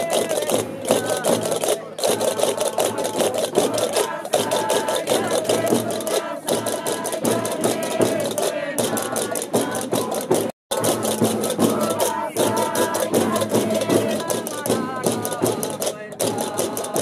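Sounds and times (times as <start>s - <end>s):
group beating large drums: 0.0s - 17.0s
voices singing: 0.0s - 17.0s.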